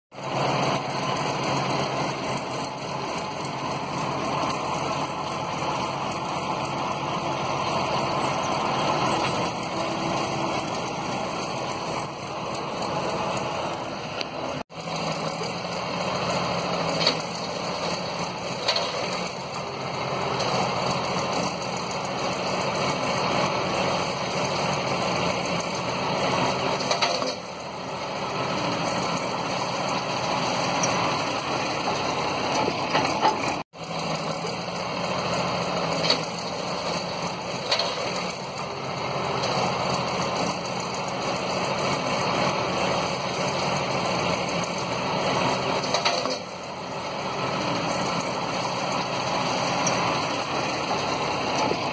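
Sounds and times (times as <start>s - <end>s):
tractor engine under load: 0.1s - 51.9s.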